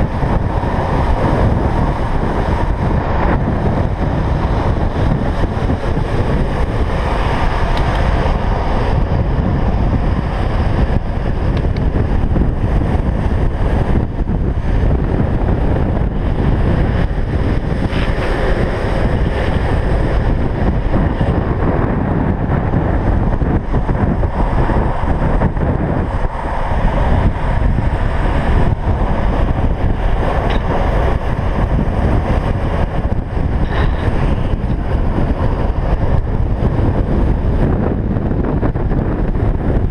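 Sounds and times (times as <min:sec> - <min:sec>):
skateboard wheels rolling on asphalt: 0:00.0 - 0:39.9
wind buffeting microphone: 0:00.0 - 0:39.9.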